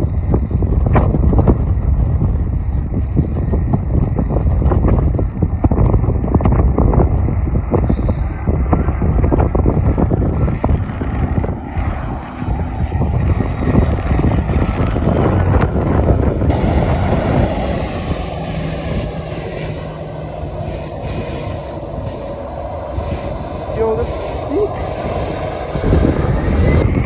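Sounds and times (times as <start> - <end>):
airplane engines: 0.0 - 27.0
wind buffeting microphone: 0.0 - 27.0.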